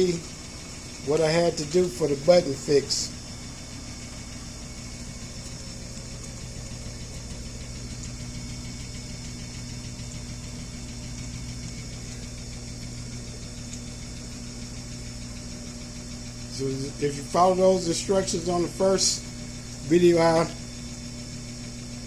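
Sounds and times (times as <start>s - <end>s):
washing machine humming: 0.0s - 22.0s.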